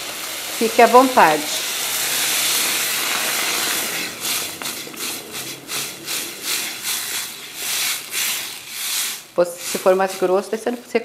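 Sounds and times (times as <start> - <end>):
food sizzling in a pot: 0.0 - 11.0
spatula stirring in a pot: 0.5 - 11.0.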